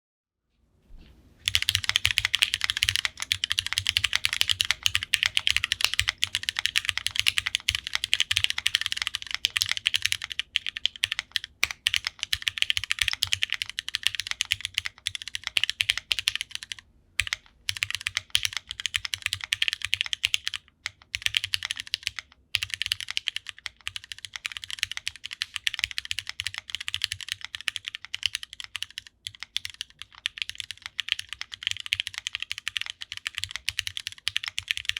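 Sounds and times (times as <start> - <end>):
mechanical keyboard typing: 1.4 - 34.9.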